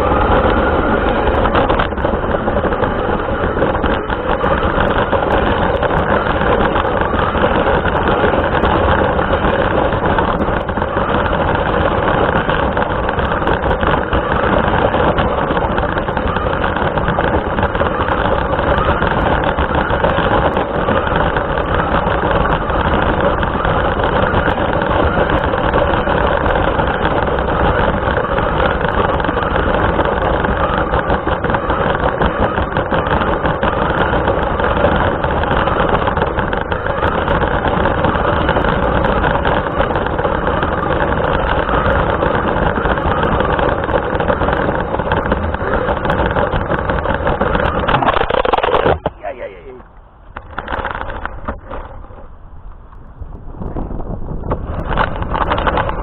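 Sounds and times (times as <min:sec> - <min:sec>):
muffled rc car motor running: 0:00.0 - 0:49.8.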